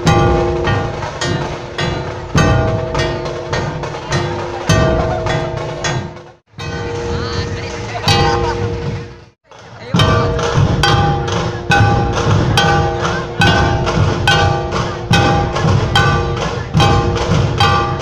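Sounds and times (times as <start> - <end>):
ringing tones: 0.0 - 9.3, 10.0 - 18.0
barrel drums beating a rhythm: 0.0 - 18.0
heavy accented drum strokes: 0.0 - 18.0.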